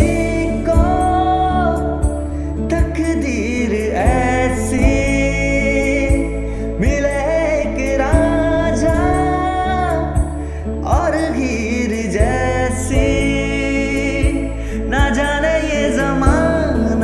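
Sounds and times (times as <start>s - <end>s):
low bass accompaniment: 0.0s - 17.0s
man singing into a microphone: 0.0s - 17.0s.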